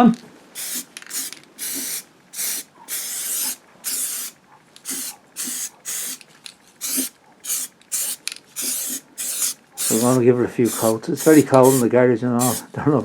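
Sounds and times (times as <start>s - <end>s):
spray paint hissing bursts: 0.6s - 6.2s, 6.8s - 12.6s.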